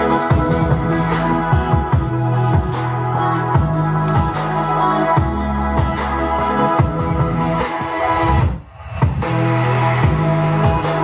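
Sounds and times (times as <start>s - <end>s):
music with bass beat: 0.0s - 11.0s.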